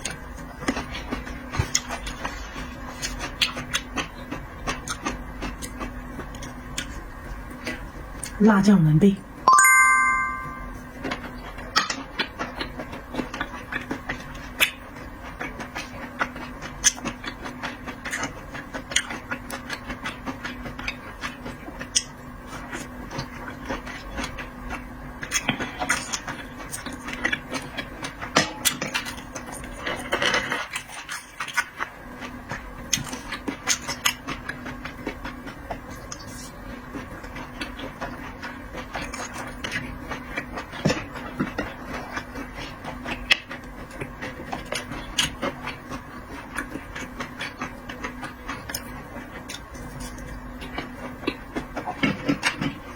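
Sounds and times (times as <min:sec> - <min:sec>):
wet chewing clicks and smacks: 0:00.0 - 0:08.4, 0:11.0 - 0:52.9.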